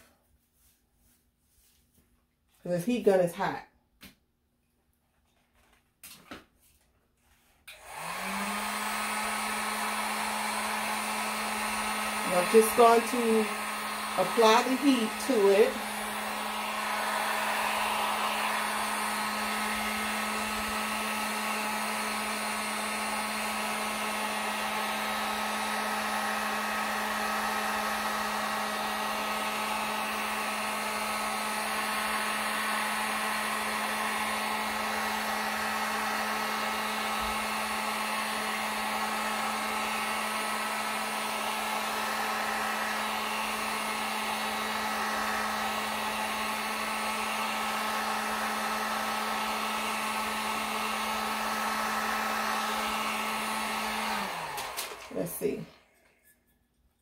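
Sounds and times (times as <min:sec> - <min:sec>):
heat gun blowing air: 0:07.6 - 0:55.7.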